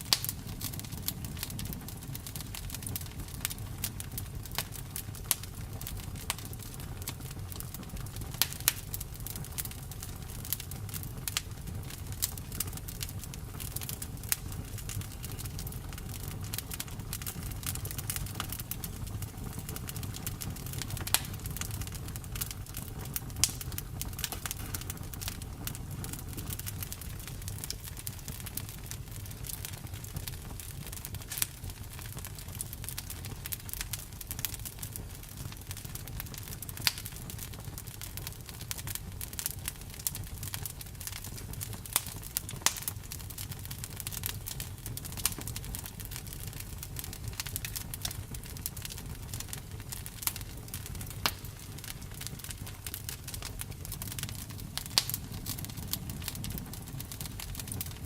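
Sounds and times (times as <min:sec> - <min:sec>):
campfire low rush: 0:00.0 - 0:58.0
wood crackling and popping: 0:00.0 - 0:58.0.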